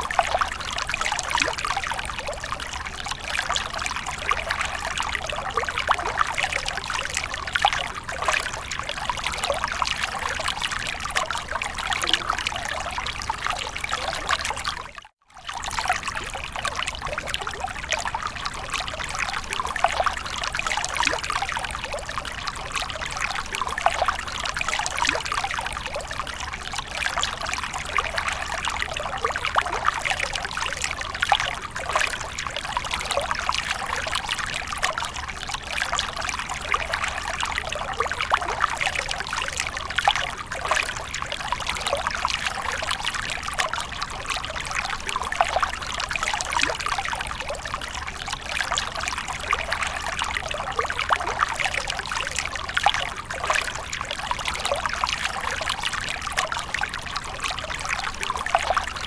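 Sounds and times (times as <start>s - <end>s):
water pouring and splashing: 0.0s - 59.0s.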